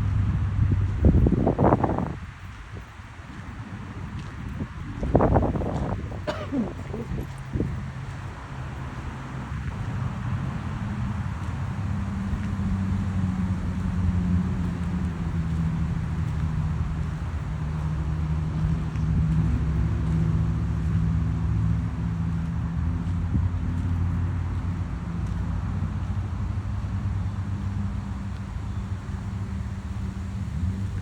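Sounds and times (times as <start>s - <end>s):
constant rushing noise: 0.0s - 31.0s
vehicle engine droning: 0.0s - 31.0s.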